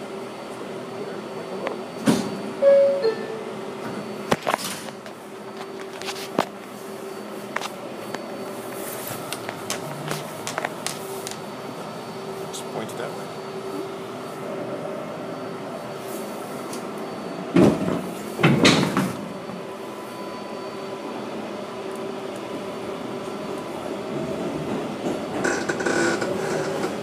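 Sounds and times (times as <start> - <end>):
subway car humming: 0.0 - 27.0.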